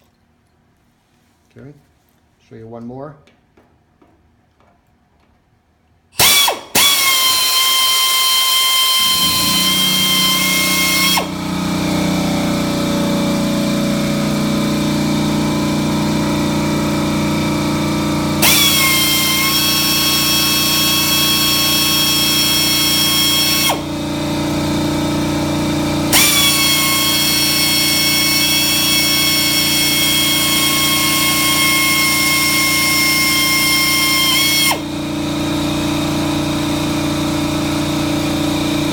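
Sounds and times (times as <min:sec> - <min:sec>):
air compressor running: 0:06.2 - 0:38.9
pneumatic air drill whining: 0:06.2 - 0:38.9.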